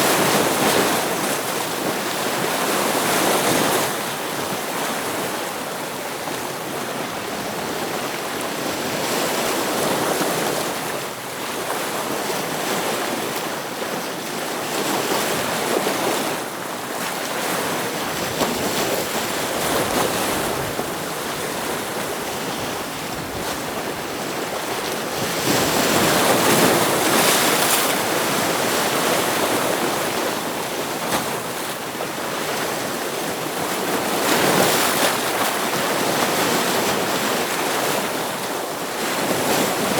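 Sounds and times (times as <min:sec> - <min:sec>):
ocean waves washing against rocks: 0:00.0 - 0:39.9.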